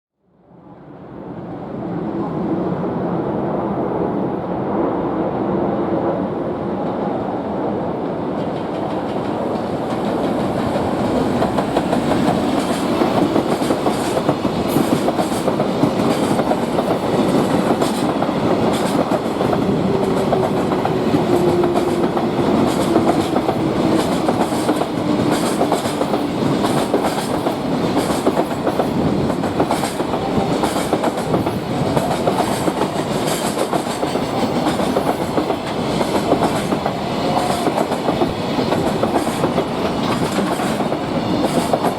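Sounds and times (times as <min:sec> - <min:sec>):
freight train rumbling past: 0:00.4 - 0:41.9.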